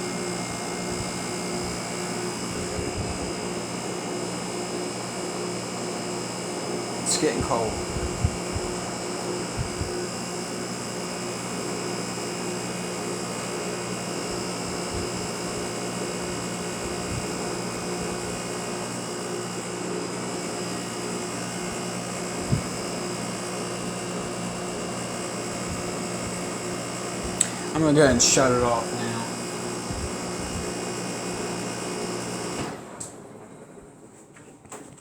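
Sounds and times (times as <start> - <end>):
air conditioner humming: 0.0 - 5.6, 6.8 - 35.0.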